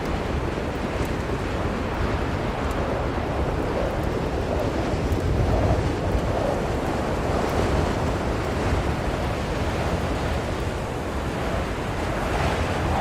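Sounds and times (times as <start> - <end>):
blizzard wind blowing: 0.0 - 13.0.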